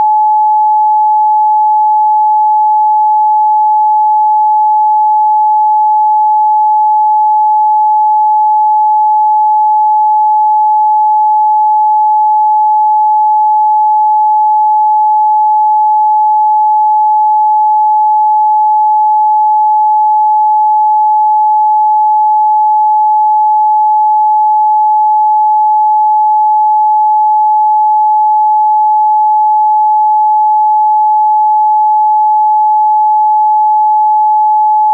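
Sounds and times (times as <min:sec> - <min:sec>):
sine wave test tone: 0:00.0 - 0:34.9.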